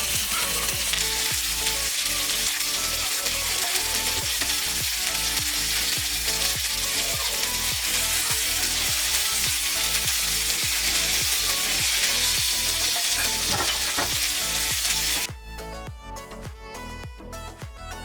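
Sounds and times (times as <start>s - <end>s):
food frying with sizzle: 0.0s - 15.3s
electronic music with beat: 0.0s - 18.0s.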